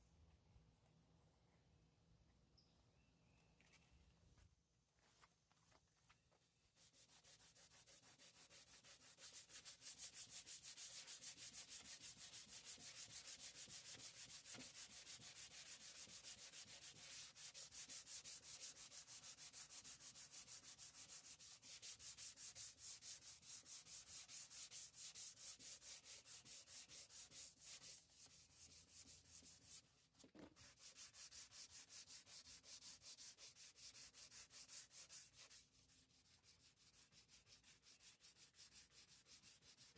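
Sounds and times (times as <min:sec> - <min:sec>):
sandpaper rubbing: 0:06.8 - 0:39.9.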